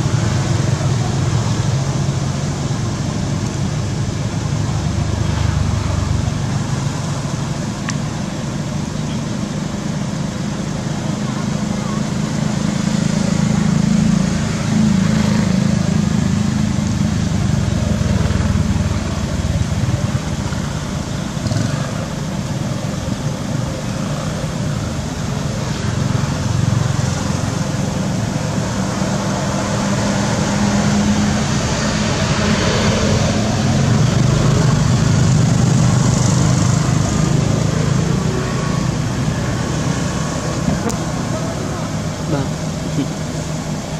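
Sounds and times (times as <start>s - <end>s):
small engine droning with hiss: 0.0s - 43.9s.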